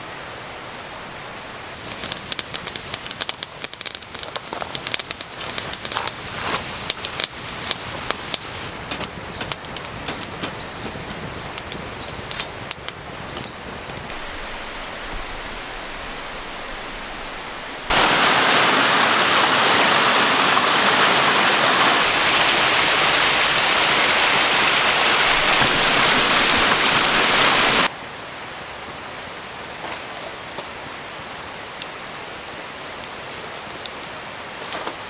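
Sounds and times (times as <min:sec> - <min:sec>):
running water rushing: 0:00.0 - 0:29.8.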